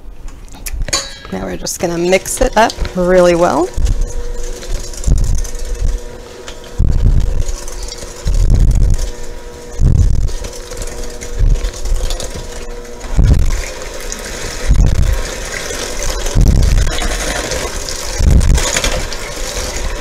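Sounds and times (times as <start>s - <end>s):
electric hand mixer running: 1.8s - 20.0s.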